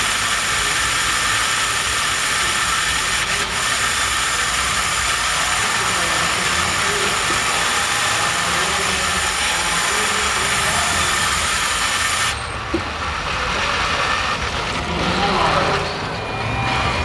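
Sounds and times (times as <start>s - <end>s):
robot motors hissing and humming: 0.0s - 17.0s
arena noise: 1.8s - 17.0s.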